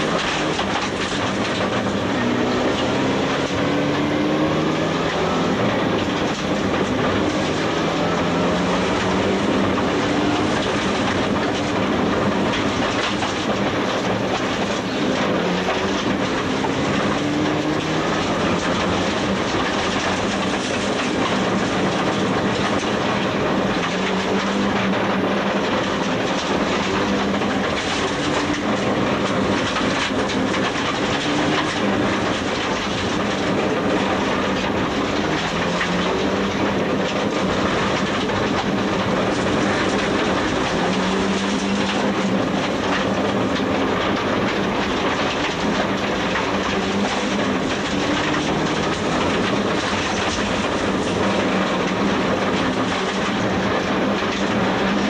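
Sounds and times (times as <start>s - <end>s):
rally car engine revving: 0.0s - 55.0s
tyres on gravel road: 0.0s - 55.0s.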